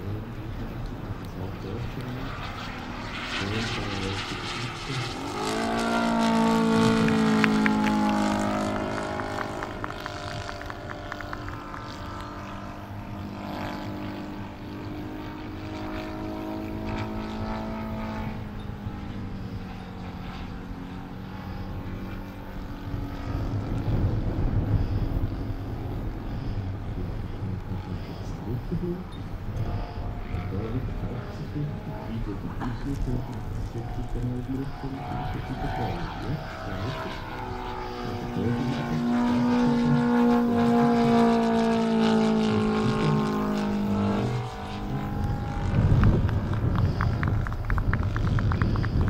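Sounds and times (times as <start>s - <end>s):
model plane engine and propeller: 0.0s - 49.0s.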